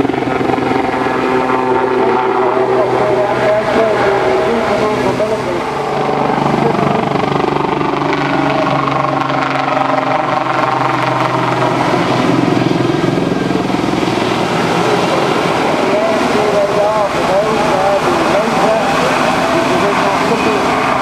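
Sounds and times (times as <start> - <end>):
helicopter flying overhead: 0.0 - 21.0.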